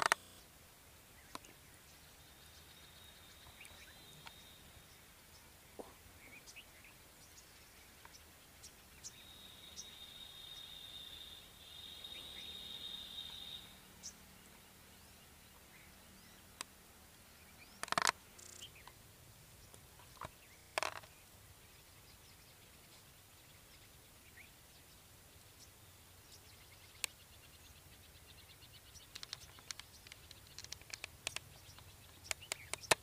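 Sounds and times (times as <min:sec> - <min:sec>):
birds calling faintly: 0:00.0 - 0:33.0.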